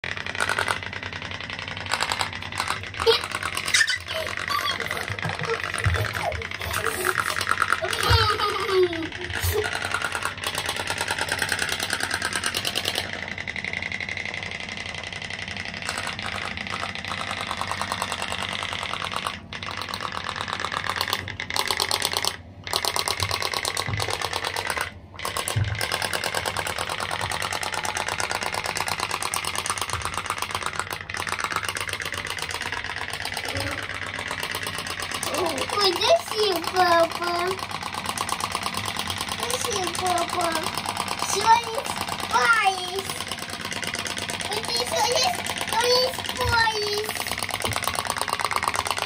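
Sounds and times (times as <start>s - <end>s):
pop-pop boat engine putting: 0.0s - 49.0s.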